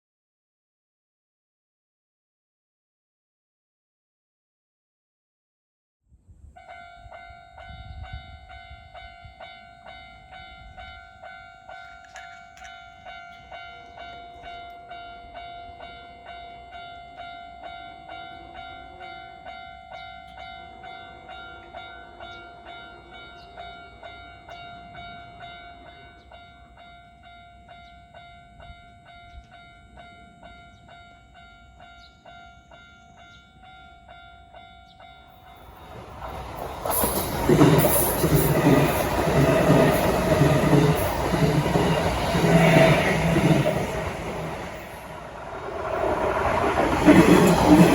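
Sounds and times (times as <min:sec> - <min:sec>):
level crossing warning bell: 0:06.6 - 0:47.9.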